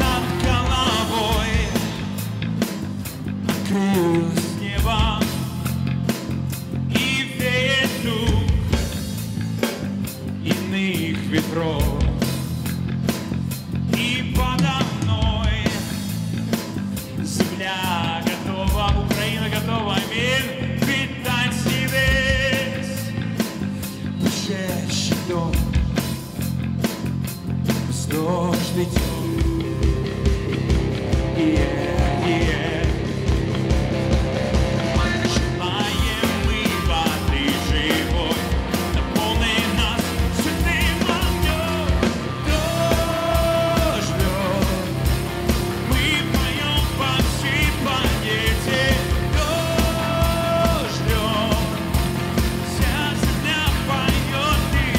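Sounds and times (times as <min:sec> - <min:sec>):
man singing with vibrato: 0:00.0 - 0:02.4, 0:03.5 - 0:05.8, 0:06.8 - 0:08.9, 0:10.3 - 0:12.3, 0:13.9 - 0:16.3, 0:17.0 - 0:26.0, 0:27.8 - 0:33.6, 0:34.8 - 0:54.9
bass guitar: 0:00.0 - 0:54.9
drum kit steady beat: 0:00.0 - 0:54.9
electric guitars: 0:00.0 - 0:54.9
keyboard: 0:00.0 - 0:54.9.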